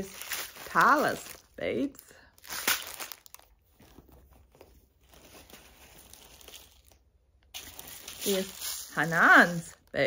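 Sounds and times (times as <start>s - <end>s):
plastic bags crinkling and rustling: 0.0s - 10.0s.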